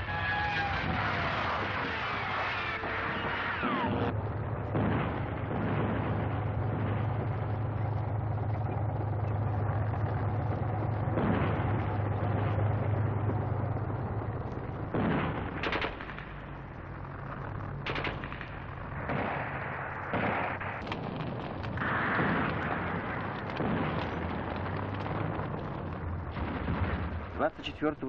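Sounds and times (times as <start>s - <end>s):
gunshots: 0.0s - 7.9s, 11.0s - 13.8s, 14.8s - 27.7s
explosions: 0.0s - 27.8s
tank engines rumbling: 0.0s - 28.0s.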